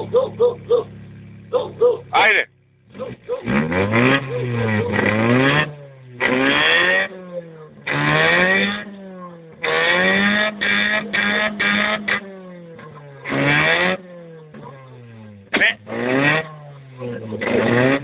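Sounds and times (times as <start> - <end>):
car engine revving: 0.0 - 18.0
exhaust rasping: 0.0 - 18.0.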